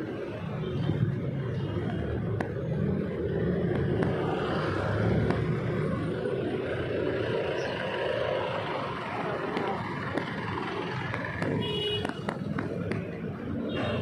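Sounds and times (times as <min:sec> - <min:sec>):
street traffic engines: 0:00.0 - 0:14.0.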